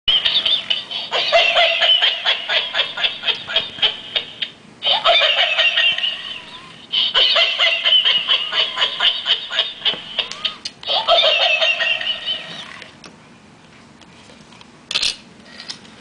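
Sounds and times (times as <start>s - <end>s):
toy playing recorded laughter: 0.1s - 13.0s.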